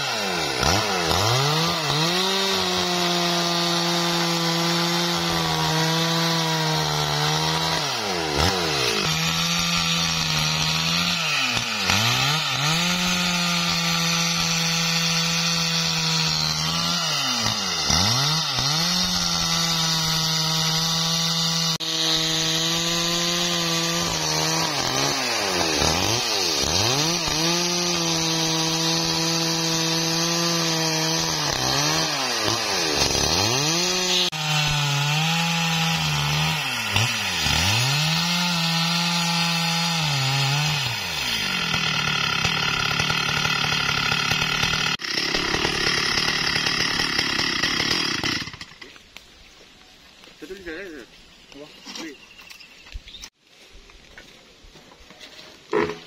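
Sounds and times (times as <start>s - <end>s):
chainsaw cutting log: 0.0s - 49.1s, 55.6s - 56.0s.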